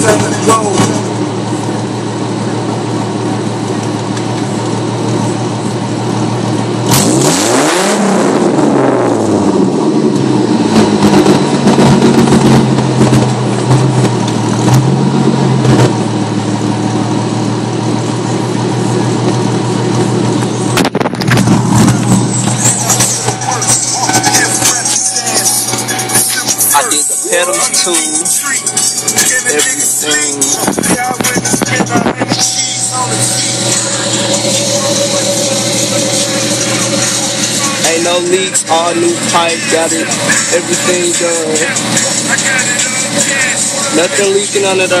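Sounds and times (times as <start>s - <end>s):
car engine exhaust: 0.0s - 45.0s.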